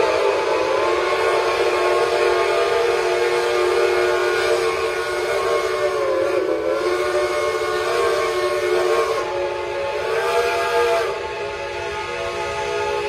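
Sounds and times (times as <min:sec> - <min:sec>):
steam locomotive whistles: 0:00.0 - 0:13.0.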